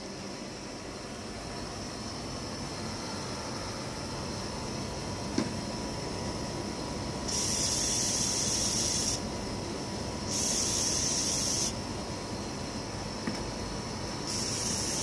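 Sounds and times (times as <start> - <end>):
mechanical background noise: 0.0 - 15.0.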